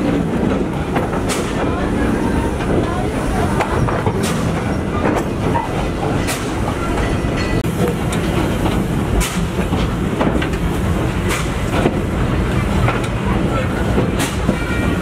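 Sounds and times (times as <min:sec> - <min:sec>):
railway carriage rumble: 0:00.0 - 0:15.0.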